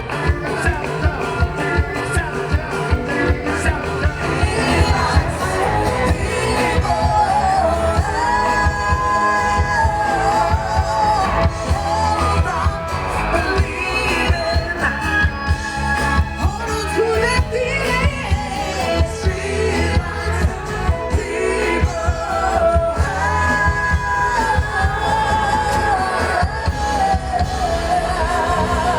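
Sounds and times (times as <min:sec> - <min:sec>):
live band playing pop-rock: 0:00.0 - 0:28.9
singer holding long notes: 0:00.0 - 0:28.9.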